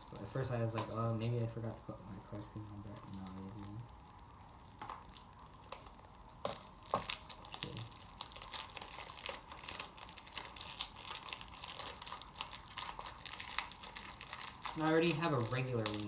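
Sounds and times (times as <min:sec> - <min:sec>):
plastic clicks and crinkling: 0:03.0 - 0:16.0.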